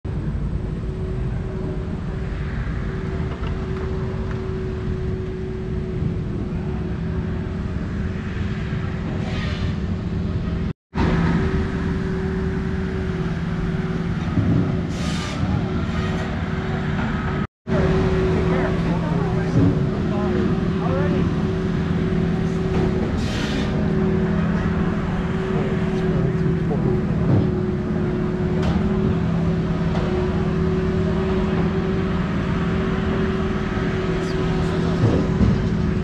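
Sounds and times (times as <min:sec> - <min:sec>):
engine drone: 0:00.0 - 0:36.0.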